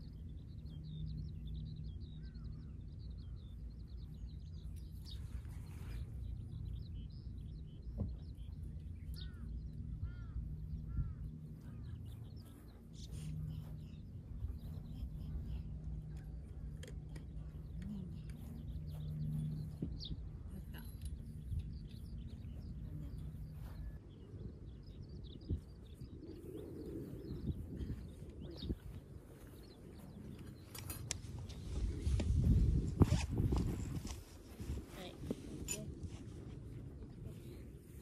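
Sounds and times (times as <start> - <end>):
low wind rumble: 0.0 - 38.0
small birds chirping: 0.0 - 38.0.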